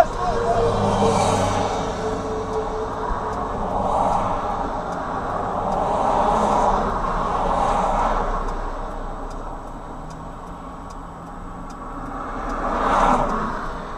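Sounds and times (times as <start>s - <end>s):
road traffic passing: 0.0s - 13.9s.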